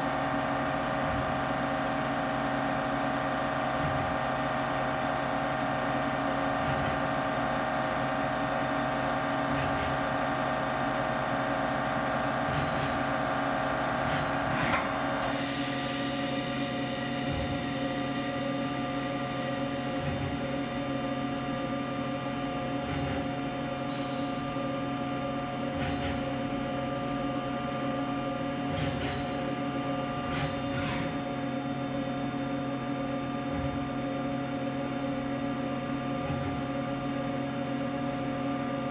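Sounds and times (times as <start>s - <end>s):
milling machine hum: 0.0s - 38.9s.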